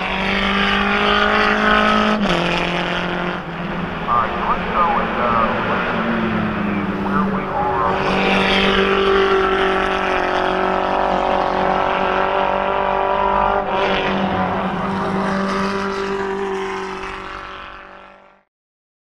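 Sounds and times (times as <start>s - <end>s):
race car engine at high revs: 0.0s - 18.4s.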